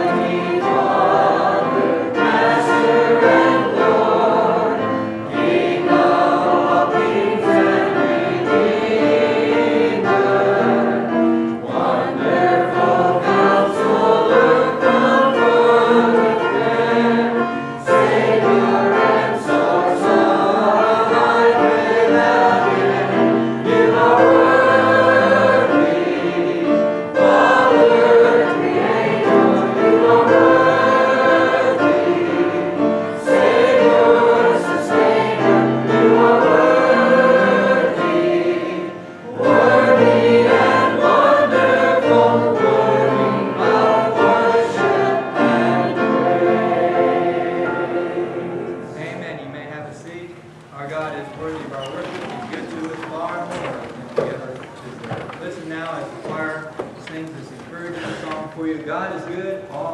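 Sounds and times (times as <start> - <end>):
choir singing a hymn: 0.0 - 50.4.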